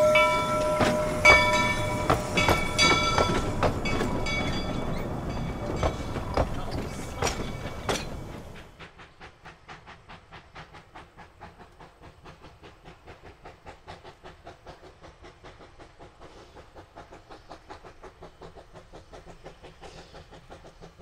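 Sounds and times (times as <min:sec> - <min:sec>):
steam locomotive chuffing: 0:00.0 - 0:21.0.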